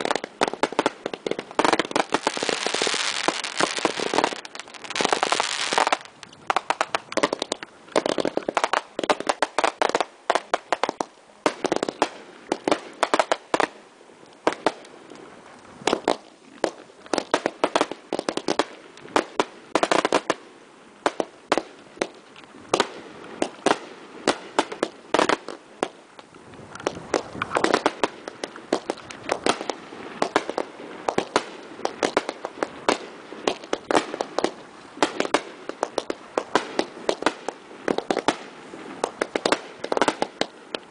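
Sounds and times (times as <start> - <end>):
fireworks bangs and crackling: 0.0 - 15.2, 15.8 - 40.9.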